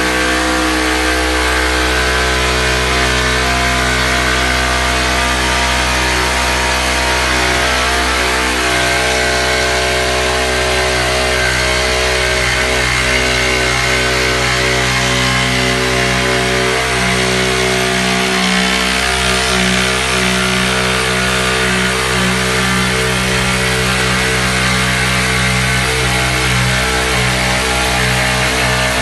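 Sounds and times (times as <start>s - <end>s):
jigsaw cutting: 0.0s - 29.0s.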